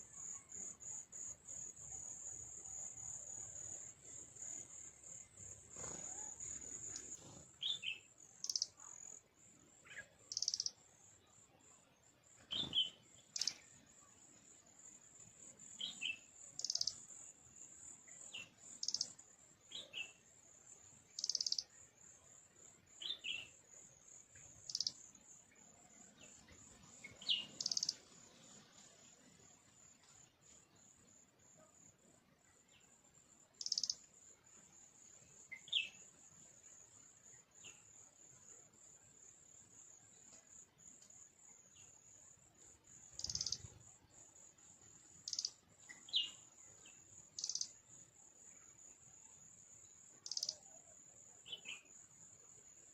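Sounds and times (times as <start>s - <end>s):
small birds chirping: 0.0s - 14.6s, 15.6s - 20.3s, 21.1s - 22.1s, 22.9s - 31.8s, 32.4s - 38.3s, 40.2s - 49.0s, 50.1s - 50.8s, 51.4s - 52.1s.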